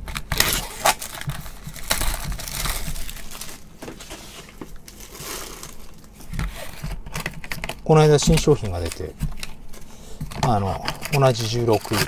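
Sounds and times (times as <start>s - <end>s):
plastic shrink wrap crinkling: 0.0s - 12.0s.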